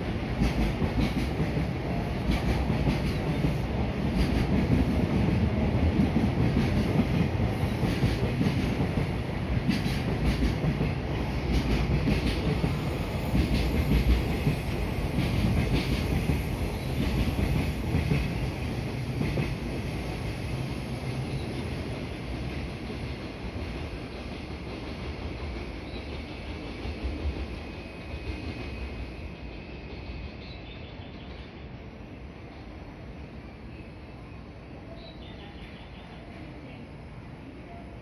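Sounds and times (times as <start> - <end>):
train low rumble: 0.0 - 38.0.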